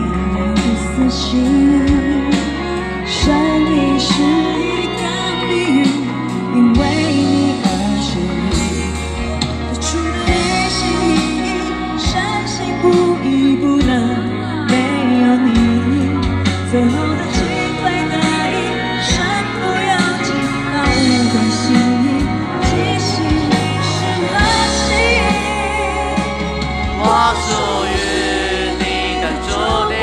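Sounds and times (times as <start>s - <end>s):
band backing with bass and beat: 0.0s - 30.0s
woman singing pop ballad: 0.0s - 30.0s.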